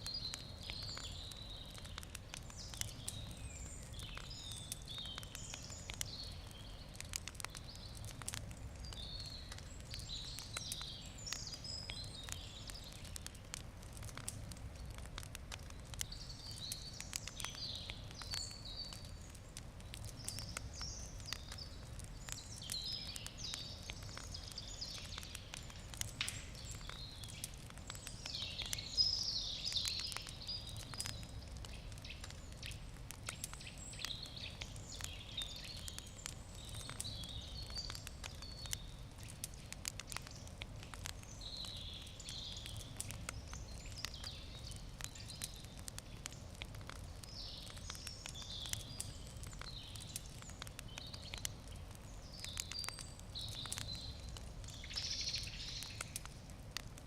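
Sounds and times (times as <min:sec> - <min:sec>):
birds singing: 0:00.0 - 0:13.6, 0:15.6 - 0:56.3
campfire crackling and popping: 0:00.0 - 0:57.0.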